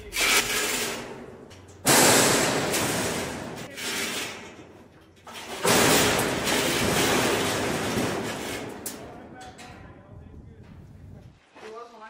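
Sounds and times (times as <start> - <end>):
metal gates banging and rattling: 0.0 - 11.3.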